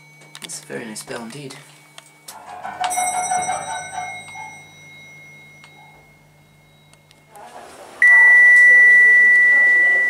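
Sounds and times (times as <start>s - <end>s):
lift arrival bell ringing: 0.0s - 10.0s.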